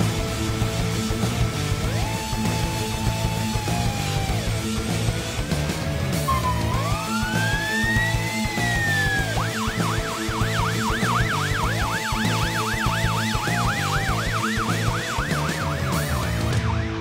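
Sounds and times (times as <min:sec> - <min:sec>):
background music: 0:00.0 - 0:17.0
ambulance siren yelping: 0:01.8 - 0:04.9, 0:06.0 - 0:17.0.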